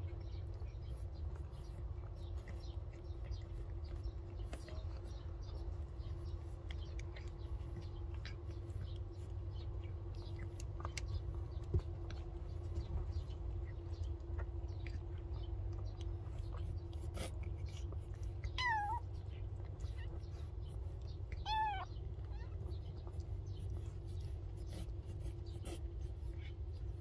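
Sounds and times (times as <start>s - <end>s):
faint hum: 0.0s - 27.0s
kittens suckling clicks: 0.0s - 27.0s
low steady rumble: 0.0s - 27.0s.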